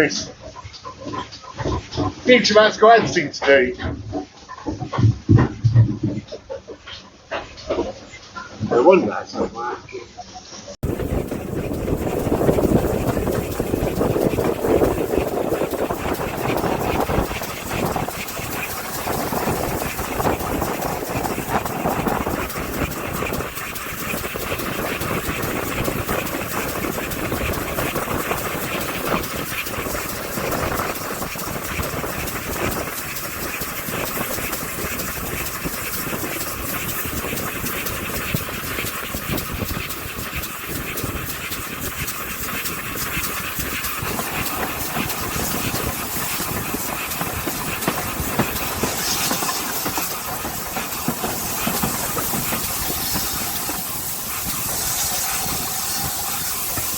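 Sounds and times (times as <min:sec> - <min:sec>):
train wheels rattling on track: 0:10.8 - 0:56.9.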